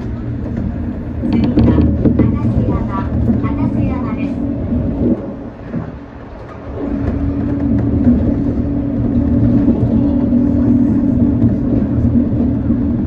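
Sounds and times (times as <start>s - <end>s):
monorail car rumbling: 0.0s - 13.0s.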